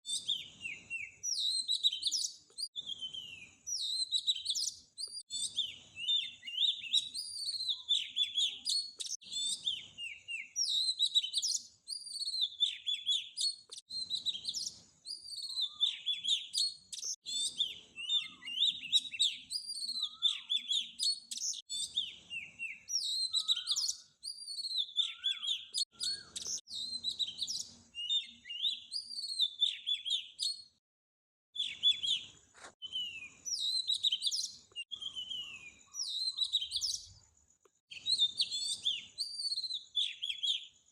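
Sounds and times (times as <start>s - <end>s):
small birds chirping: 0.0s - 30.8s, 31.5s - 40.9s.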